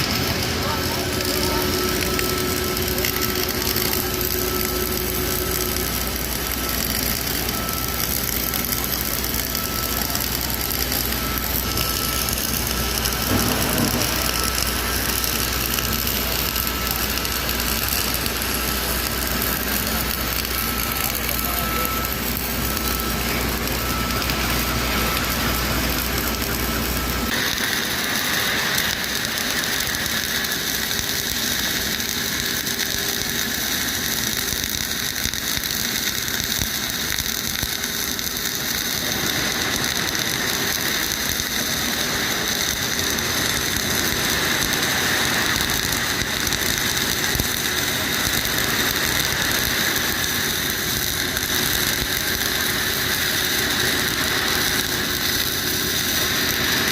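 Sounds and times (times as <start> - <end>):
welding arc crackling: 0.0 - 56.9.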